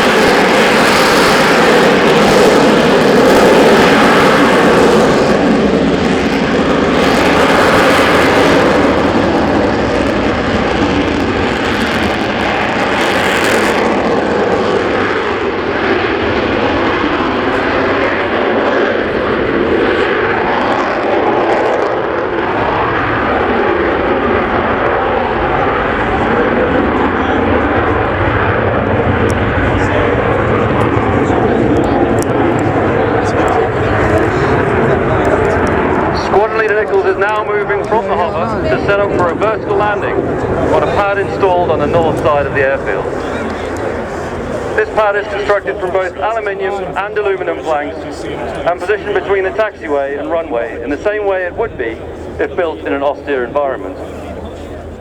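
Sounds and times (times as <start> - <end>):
jet engine roaring: 0.0 - 55.0.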